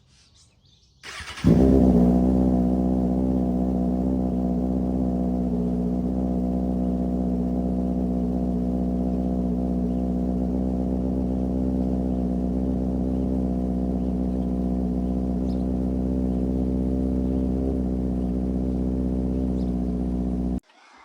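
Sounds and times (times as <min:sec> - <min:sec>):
motorcycle engine idling: 0:01.1 - 0:20.6.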